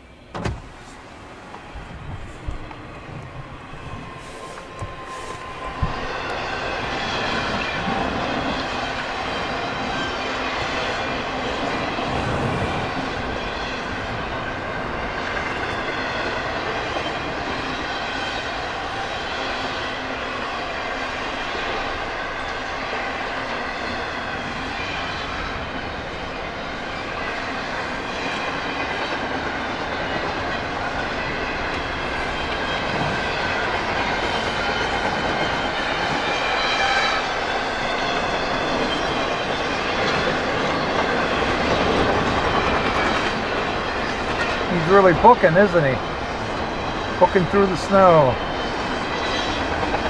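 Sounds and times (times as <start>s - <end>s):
freight train wheels rumbling: 0.0s - 50.0s.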